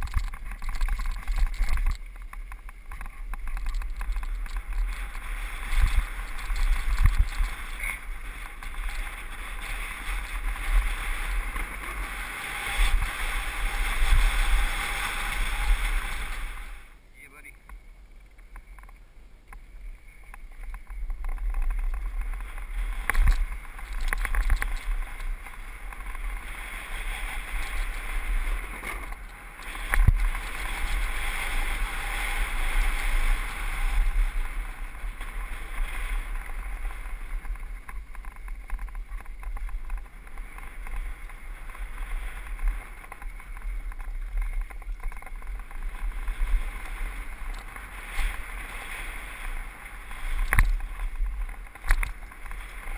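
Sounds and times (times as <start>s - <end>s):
bike knocks and rattles: 0.0s - 16.6s, 20.3s - 52.9s
wind buffeting microphone: 0.0s - 16.9s, 19.8s - 52.9s
tyres on dirt trail: 0.0s - 52.9s.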